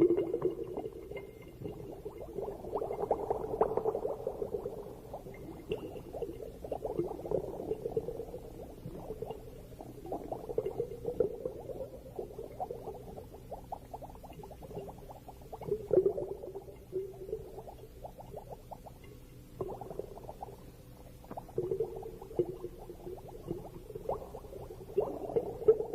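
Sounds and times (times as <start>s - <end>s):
underwater bubbling and gurgling: 0.0s - 25.9s.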